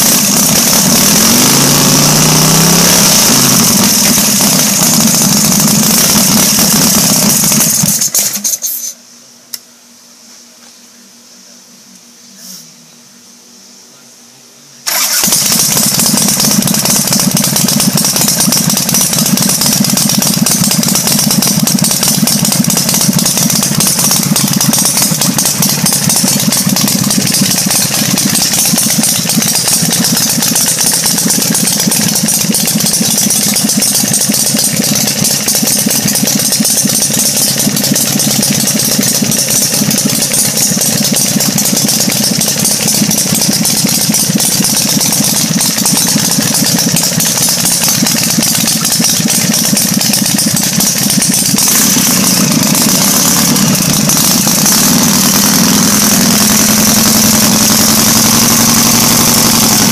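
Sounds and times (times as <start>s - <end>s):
motorcycle engine starting and running: 0.0s - 8.9s, 14.8s - 59.9s.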